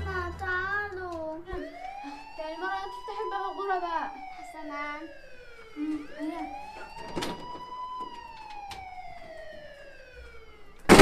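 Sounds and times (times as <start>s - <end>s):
police siren wailing: 0.0s - 11.0s.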